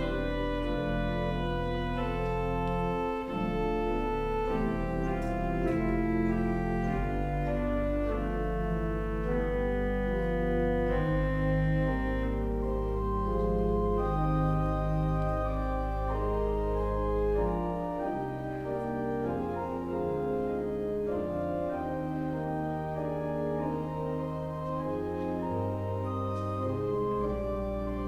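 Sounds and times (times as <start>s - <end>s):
deep bass organ note: 0.0s - 28.0s
organ playing slow chords: 0.0s - 28.0s.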